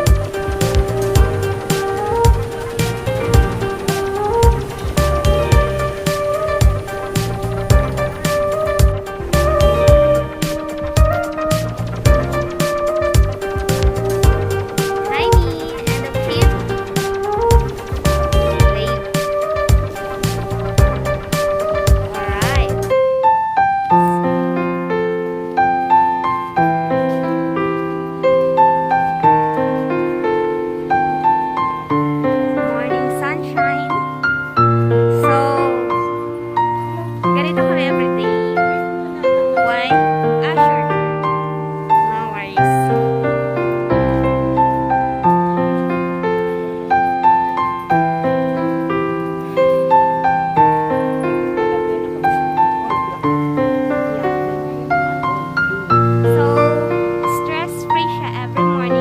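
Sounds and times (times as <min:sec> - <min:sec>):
slow piano music: 0:00.0 - 0:59.0.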